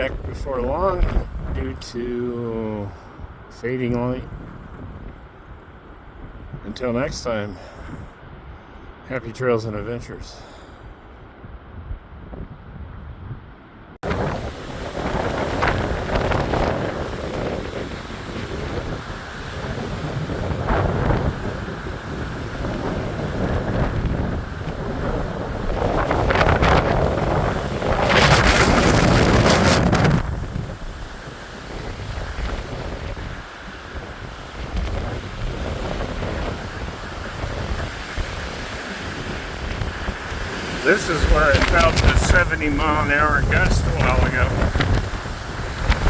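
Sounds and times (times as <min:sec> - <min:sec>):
strong gusting wind on microphone: 0:00.0 - 0:09.1, 0:10.1 - 0:46.0.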